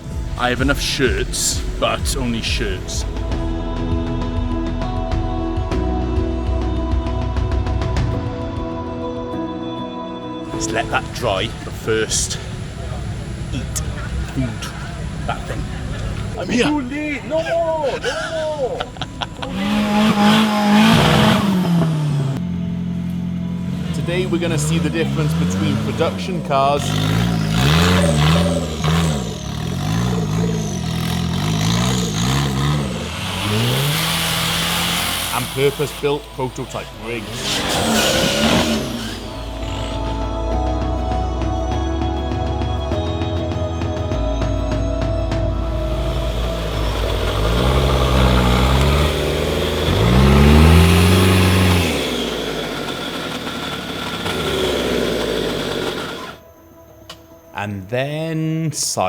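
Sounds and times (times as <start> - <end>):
off-road engine revving: 0.0 - 8.3, 10.4 - 56.7.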